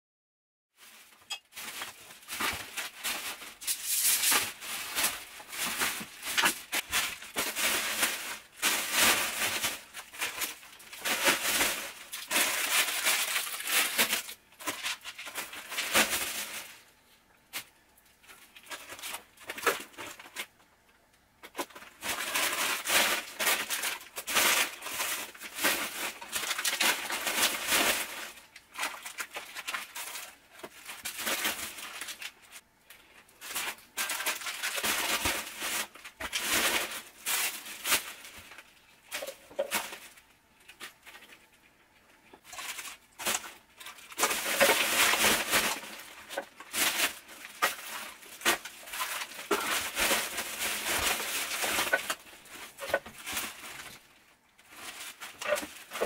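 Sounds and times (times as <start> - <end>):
tins and packets clattering: 0.8 - 16.8, 21.4 - 32.4, 33.4 - 41.4, 42.4 - 56.0
plastic bag rustling: 0.8 - 20.7, 21.4 - 56.0.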